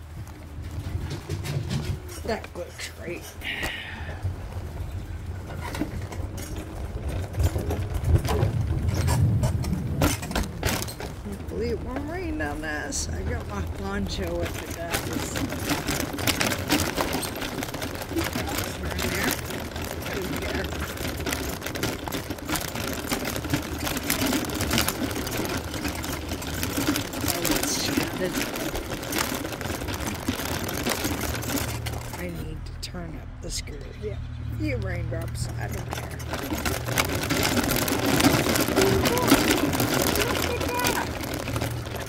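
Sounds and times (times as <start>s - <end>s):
rain pattering: 0.0s - 32.7s, 34.6s - 42.0s
wheelchair clicks and knocks: 0.0s - 32.7s, 33.6s - 42.0s
wheelchair wheels rumbling: 0.0s - 42.0s.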